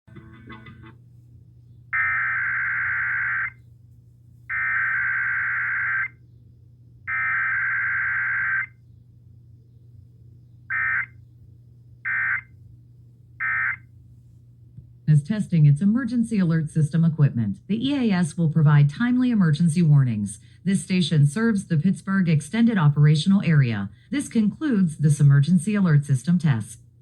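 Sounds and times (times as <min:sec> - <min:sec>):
steady low hum: 0:00.1 - 0:27.0.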